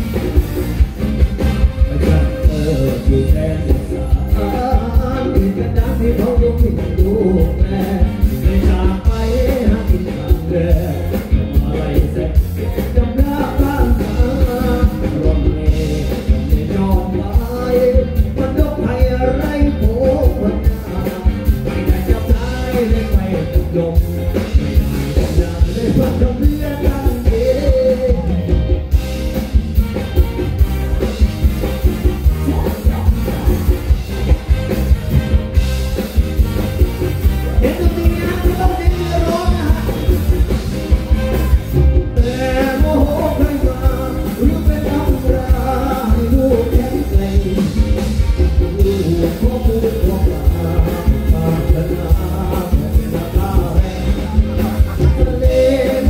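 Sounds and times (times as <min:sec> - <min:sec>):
drums with heavy beat: 0:00.0 - 0:56.0
electric guitars: 0:00.0 - 0:56.0
man singing into microphone: 0:01.8 - 0:28.9, 0:32.1 - 0:34.0, 0:37.4 - 0:56.0.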